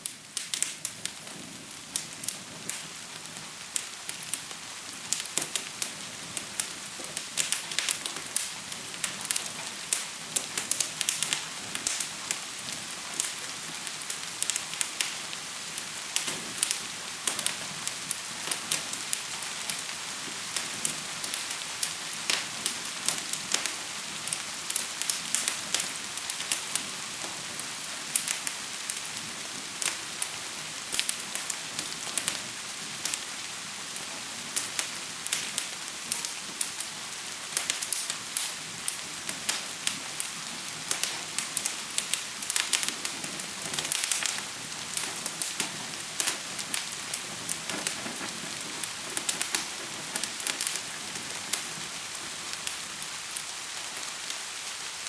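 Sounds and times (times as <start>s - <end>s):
gentle rain hissing: 0.0s - 55.0s
wood fire crackling: 0.0s - 55.0s.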